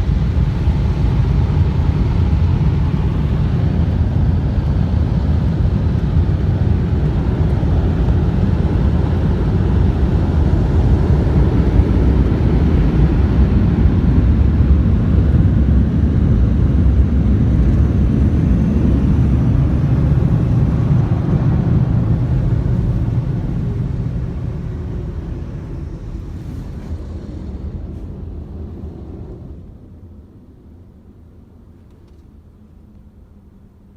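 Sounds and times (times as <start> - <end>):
car wash machinery rumbling: 0.0 - 31.8.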